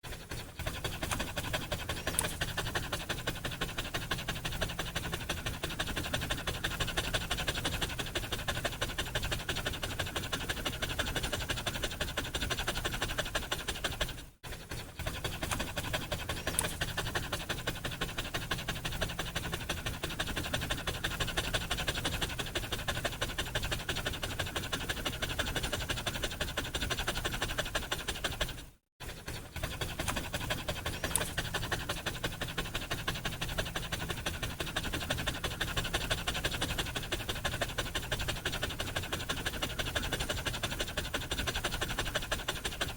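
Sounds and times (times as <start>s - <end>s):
dog panting: 0.0s - 42.9s.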